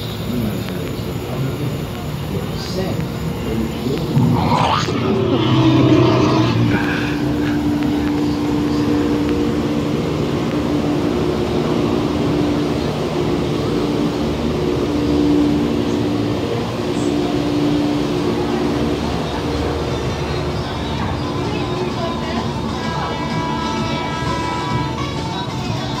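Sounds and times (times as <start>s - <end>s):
loud droning hum: 0.0s - 26.0s.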